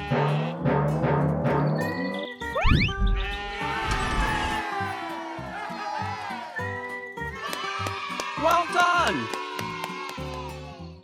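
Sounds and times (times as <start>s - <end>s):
background music sustained notes: 0.1s - 11.0s.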